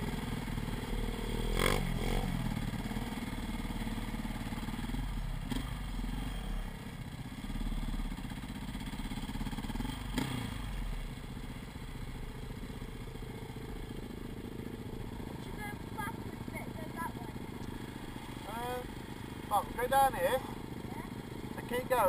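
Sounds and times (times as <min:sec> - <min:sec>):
off-road motorcycle engine: 0:00.0 - 0:22.0.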